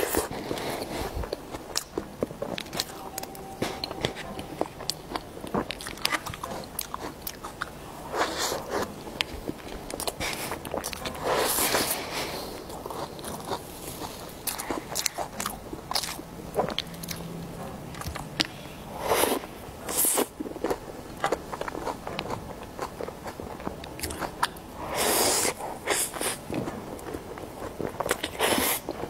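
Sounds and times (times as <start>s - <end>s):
wet chewing: 3.8s - 29.0s.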